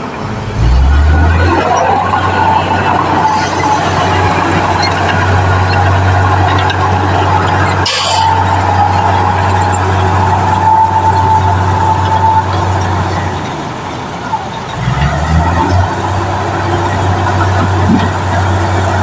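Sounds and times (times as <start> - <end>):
diesel machinery droning: 0.0 - 19.0.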